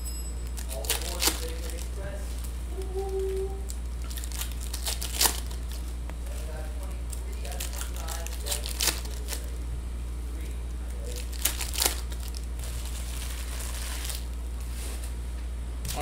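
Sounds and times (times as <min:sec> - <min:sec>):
low hum: 0:00.0 - 0:16.0
foil wrappers tearing and crinkling: 0:00.4 - 0:09.6, 0:10.8 - 0:15.1.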